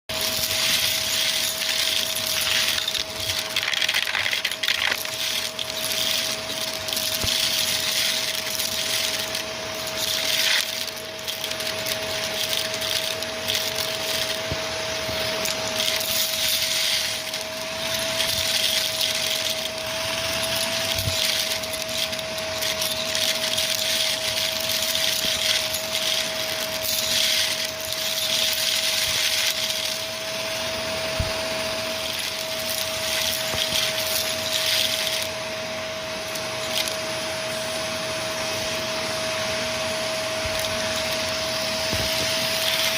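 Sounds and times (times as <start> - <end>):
debris clinking in metal wand: 0.1 - 30.3, 31.4 - 37.6, 40.1 - 42.9
vacuum cleaner motor whine: 0.1 - 42.9.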